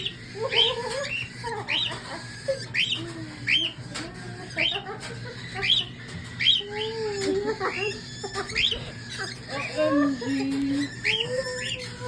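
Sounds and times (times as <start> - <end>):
cockatiels chirping: 0.0 - 12.0.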